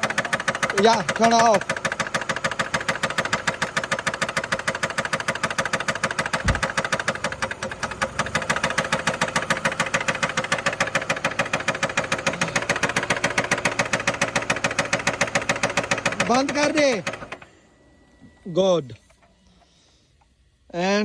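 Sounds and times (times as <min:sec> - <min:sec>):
rapid engine knock: 0:00.0 - 0:17.5
car engine idling: 0:00.0 - 0:21.0.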